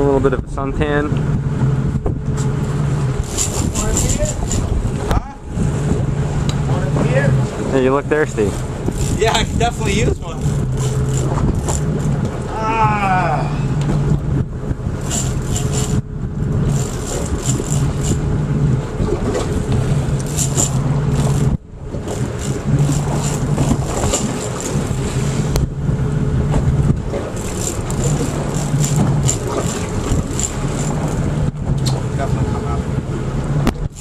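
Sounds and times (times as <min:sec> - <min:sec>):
boat engine idling: 0:00.0 - 0:34.0
water around hull: 0:00.0 - 0:34.0.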